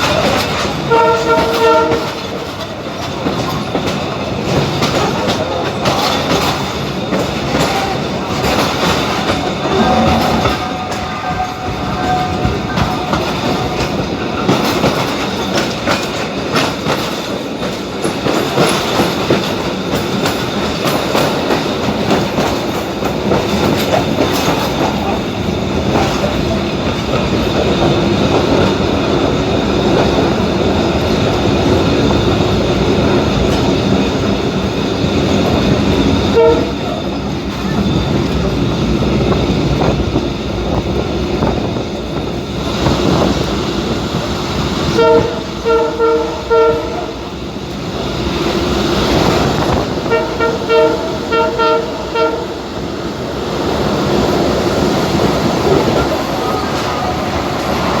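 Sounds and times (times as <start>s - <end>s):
train wheels clacking over rail joints: 0.0s - 58.0s.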